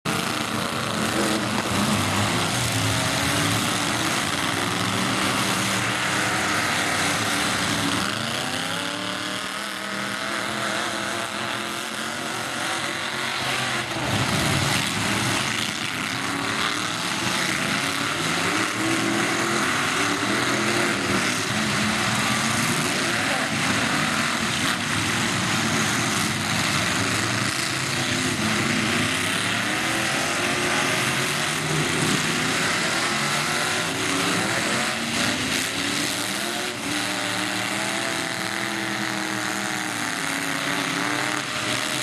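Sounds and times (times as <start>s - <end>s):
truck engines revving: 0.0s - 42.0s.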